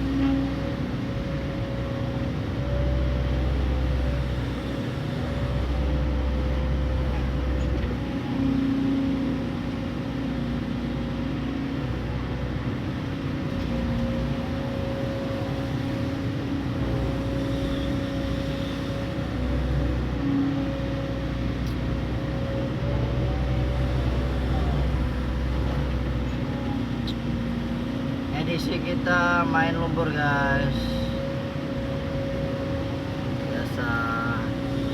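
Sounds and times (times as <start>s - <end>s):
excavator diesel engine digging: 0.0s - 34.9s.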